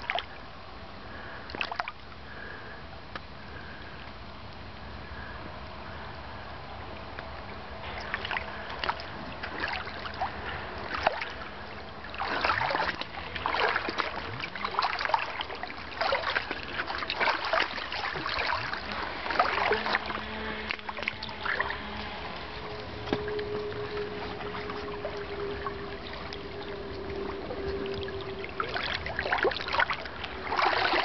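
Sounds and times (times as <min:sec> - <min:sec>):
river water babbling over gravel: 0:06.0 - 0:31.0.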